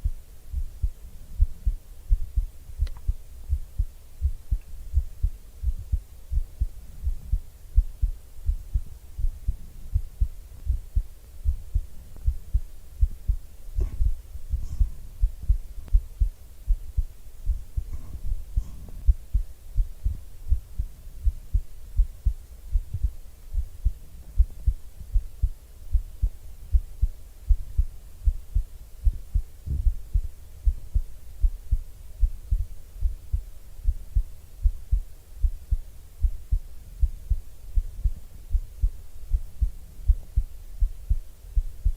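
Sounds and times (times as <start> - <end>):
heartbeat thumps: 0.0 - 41.9.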